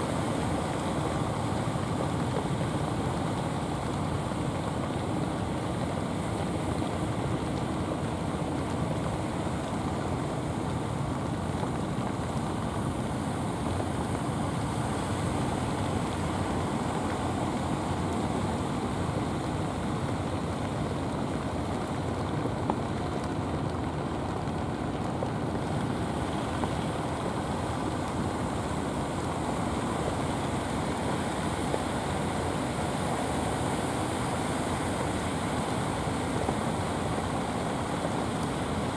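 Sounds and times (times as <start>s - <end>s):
surf on a rough sea: 0.0s - 38.9s
wind: 0.0s - 38.9s.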